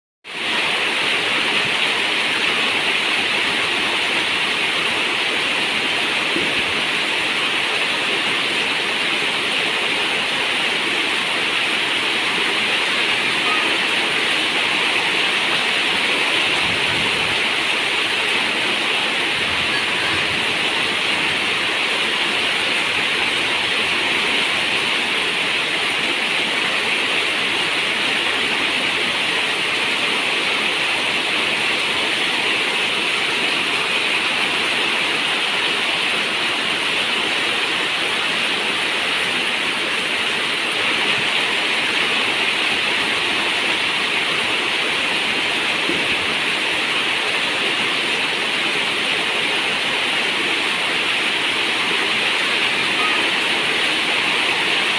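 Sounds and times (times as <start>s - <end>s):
rain on a metal roof: 0.2s - 54.9s.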